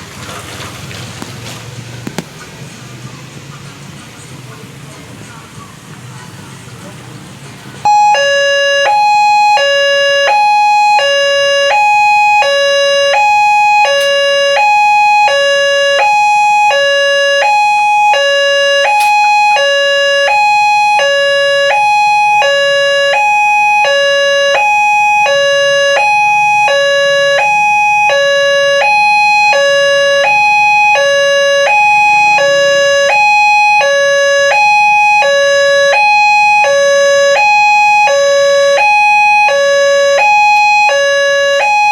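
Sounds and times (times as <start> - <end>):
two-tone level crossing alarm: 7.8 - 41.9.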